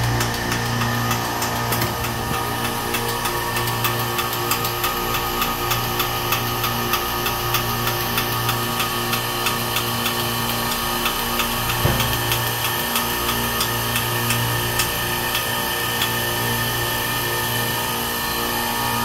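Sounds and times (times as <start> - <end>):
light regular ticking: 0.0 - 16.2
refrigeration compressor humming: 0.0 - 19.0.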